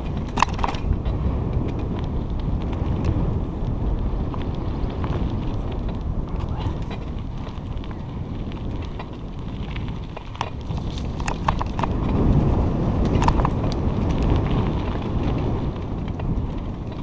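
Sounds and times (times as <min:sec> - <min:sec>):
bicycle clicks and rattles: 0:00.0 - 0:17.0
wind and tyre noise: 0:00.0 - 0:17.0.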